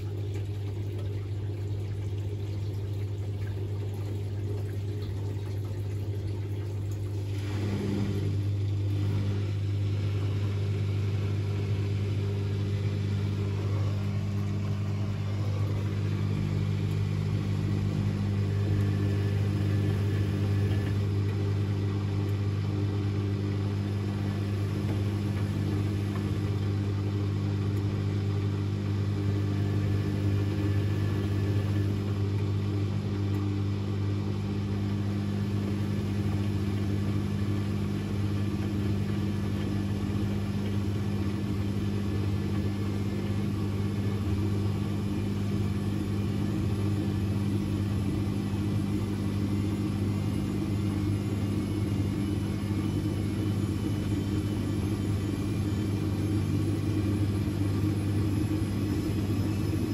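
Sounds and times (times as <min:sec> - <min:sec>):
washing machine drain pump humming: 0:00.0 - 0:59.9.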